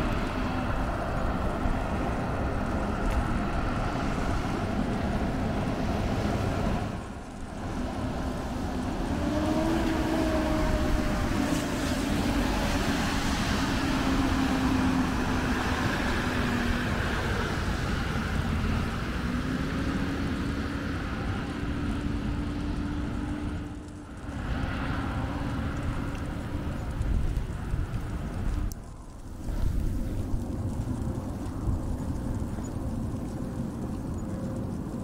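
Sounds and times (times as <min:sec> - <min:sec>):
road and wind noise: 0:00.0 - 0:35.0
vehicle engine humming: 0:00.0 - 0:35.0.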